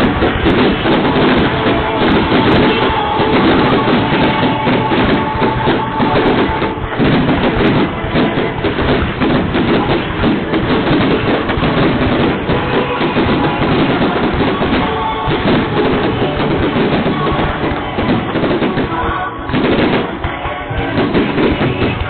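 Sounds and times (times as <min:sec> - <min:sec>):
fireworks crackling and popping: 0:00.0 - 0:22.0
music playing: 0:00.0 - 0:22.0.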